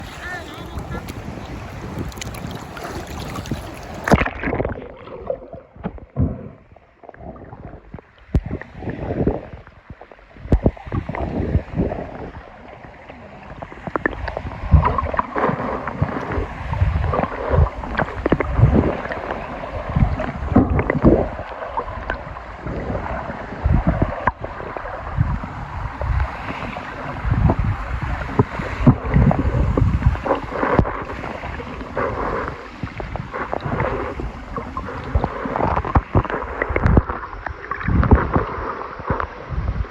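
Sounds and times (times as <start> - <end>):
lake waves sloshing: 0.0 - 39.9
wind buffeting microphone: 0.0 - 39.9.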